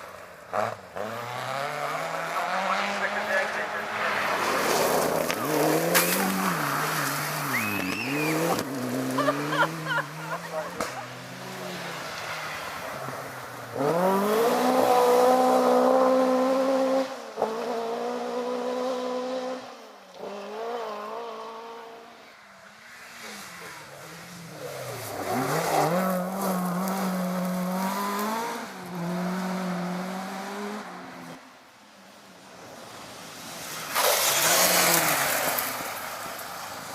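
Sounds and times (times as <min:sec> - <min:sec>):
rally car engine revving: 0:00.5 - 0:22.2, 0:22.8 - 0:31.4, 0:33.6 - 0:36.9.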